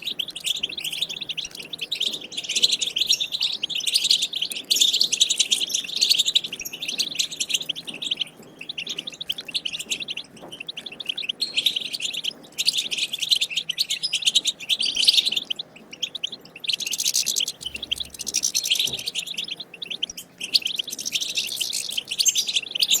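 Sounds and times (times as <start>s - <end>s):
goldfinch twittering song: 0.0s - 23.0s.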